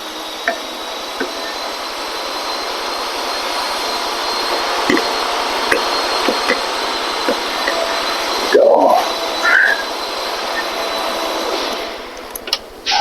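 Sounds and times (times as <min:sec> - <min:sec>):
rushing machine noise: 0:00.0 - 0:13.0.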